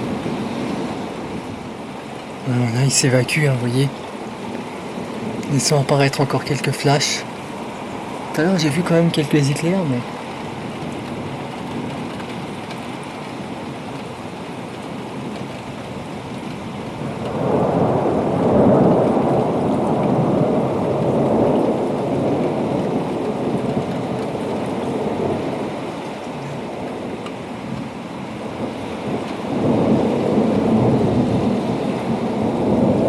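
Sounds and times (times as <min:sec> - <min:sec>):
rolling thunder: 0:00.0 - 0:03.7, 0:04.4 - 0:33.0
steady rain: 0:00.0 - 0:33.0.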